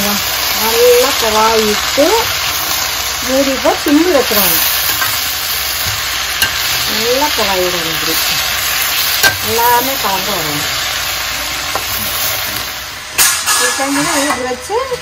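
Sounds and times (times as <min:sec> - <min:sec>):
cabbage sizzling in hot oil: 0:00.0 - 0:15.0.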